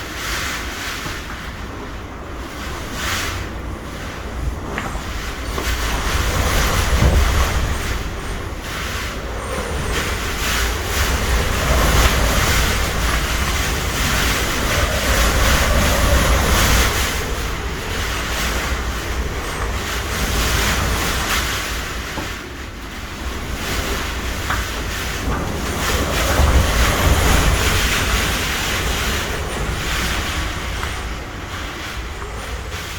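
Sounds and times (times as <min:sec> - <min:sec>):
heavy surf breaking: 0:00.0 - 0:32.9
wind gusting against microphone: 0:00.0 - 0:32.9.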